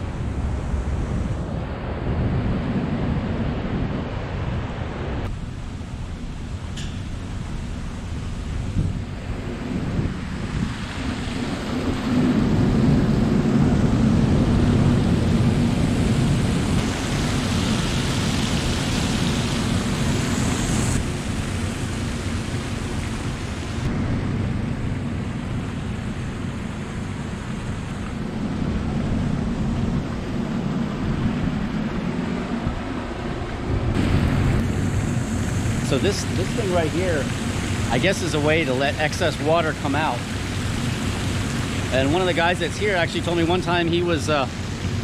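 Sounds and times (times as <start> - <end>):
low rumble of turbines: 0.0 - 45.0
rushing water hiss: 5.3 - 45.0.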